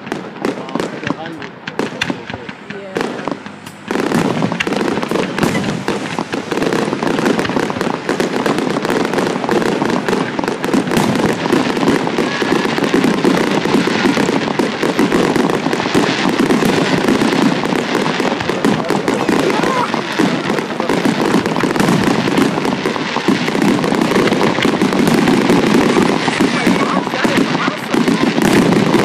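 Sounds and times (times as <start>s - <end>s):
firework shells bursting: 0.0s - 29.0s.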